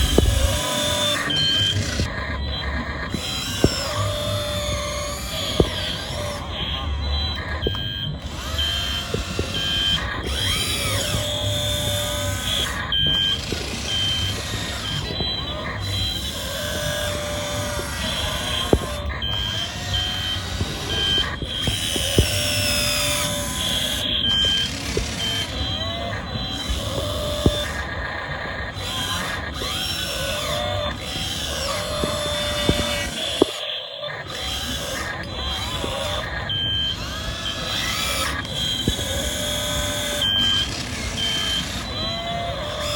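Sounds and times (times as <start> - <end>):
low motor hum: 0.0 - 33.6, 34.2 - 42.9
sharp clicks: 0.0 - 42.9.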